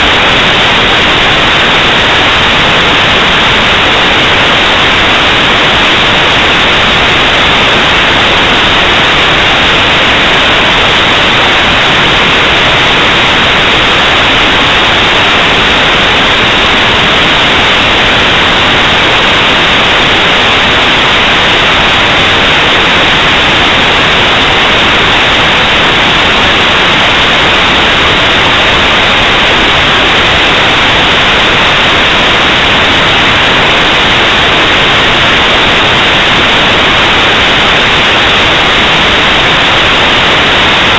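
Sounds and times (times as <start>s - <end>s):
loud static hiss: 0.0s - 40.9s.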